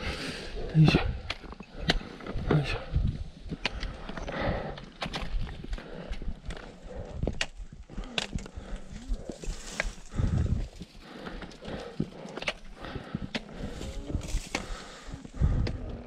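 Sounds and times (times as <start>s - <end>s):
trekking poles clacking on rock: 0.9s - 15.8s.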